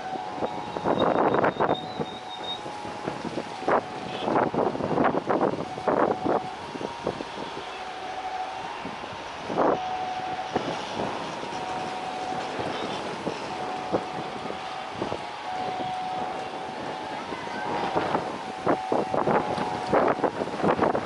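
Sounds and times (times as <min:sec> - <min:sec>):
roadside traffic: 0:00.0 - 0:21.0
steady whining tone: 0:00.0 - 0:21.0
wind on microphone: 0:00.0 - 0:21.0.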